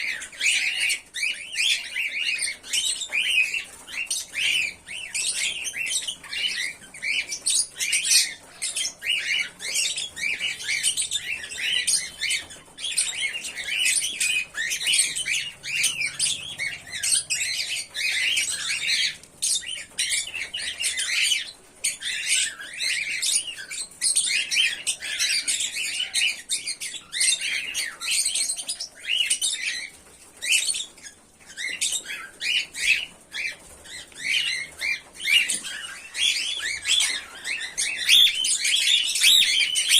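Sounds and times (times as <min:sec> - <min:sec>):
cockatiels chirping: 0:00.0 - 0:39.9.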